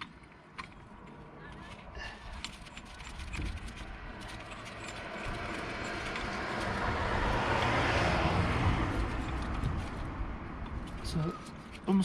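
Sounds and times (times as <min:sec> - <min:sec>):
passing vehicle road and engine noise: 0:00.0 - 0:12.0.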